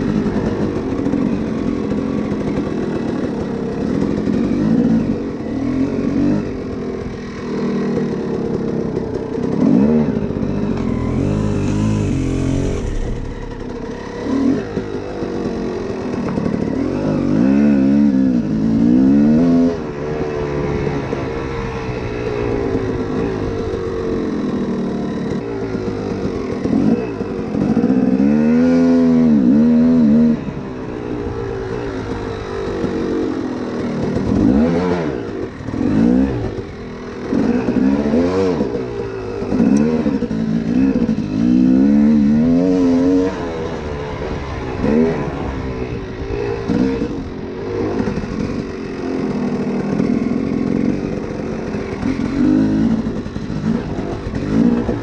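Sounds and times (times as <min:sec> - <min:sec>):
two-stroke dirt bike engine revving: 0:00.0 - 0:55.0.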